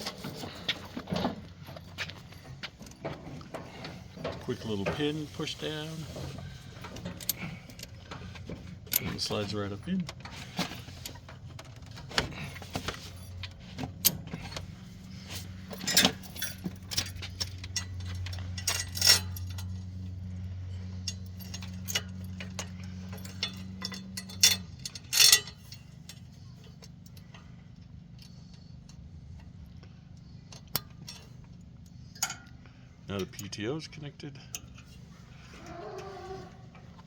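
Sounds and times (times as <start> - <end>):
metal clinks and rattles: 0.0 - 33.8, 34.4 - 37.0
low steady hum: 0.0 - 37.0.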